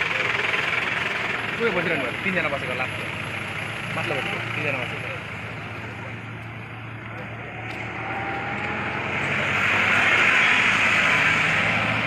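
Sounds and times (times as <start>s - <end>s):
vehicle passing: 1.3s - 12.0s.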